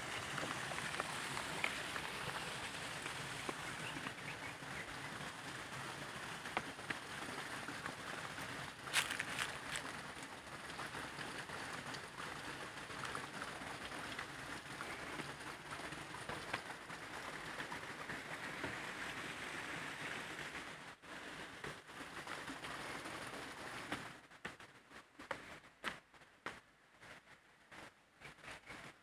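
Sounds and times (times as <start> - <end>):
stream water trickling over rocks: 0.0 - 26.0.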